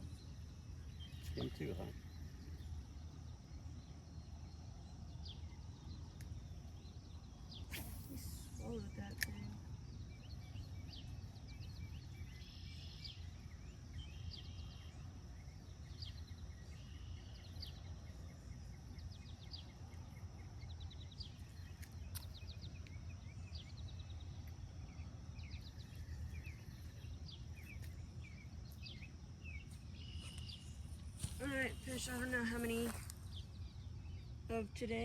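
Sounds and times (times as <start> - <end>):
songbirds chirping and trilling: 0.0 - 35.0.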